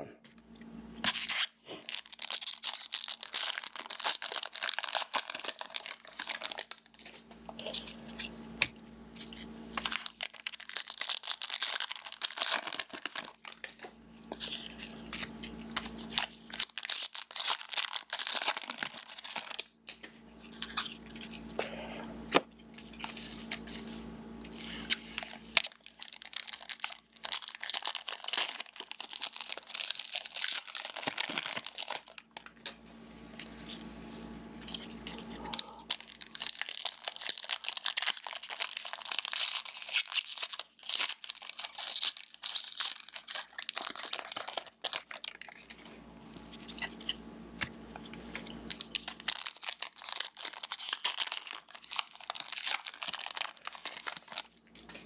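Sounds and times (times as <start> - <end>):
card wrappers tearing and crinkling: 1.0 - 32.7, 33.3 - 55.0.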